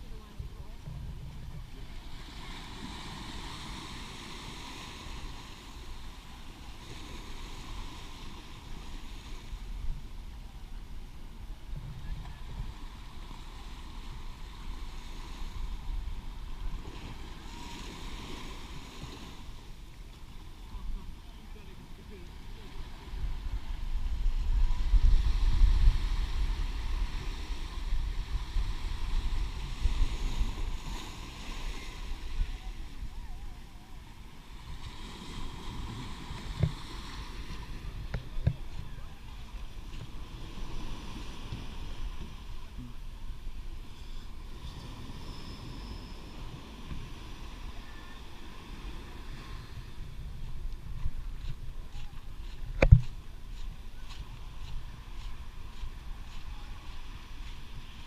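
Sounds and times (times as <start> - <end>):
surf washing: 0.0 - 58.0
wind rumbling on microphone: 0.0 - 58.0.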